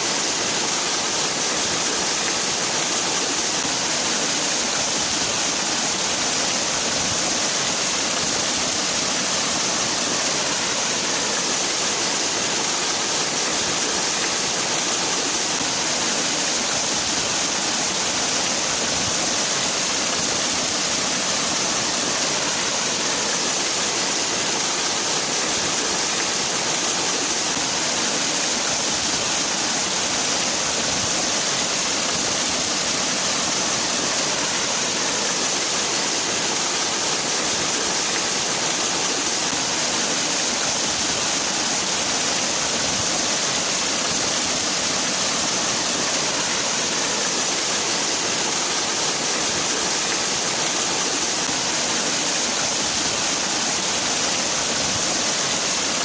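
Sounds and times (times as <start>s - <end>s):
waterfall: 0.0s - 56.0s.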